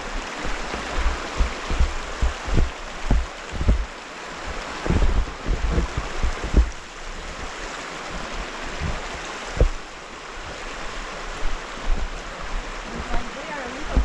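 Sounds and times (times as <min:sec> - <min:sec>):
creek water rushing: 0:00.0 - 0:14.0
wind buffeting microphone: 0:00.0 - 0:14.0.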